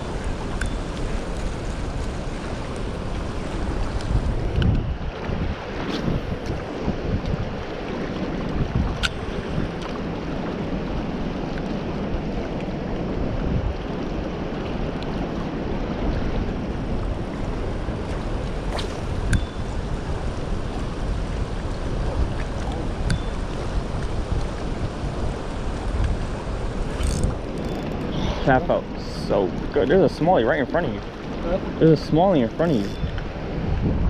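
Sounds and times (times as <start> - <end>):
river rushing: 0.0 - 33.7
wind buffeting microphone: 0.0 - 34.0.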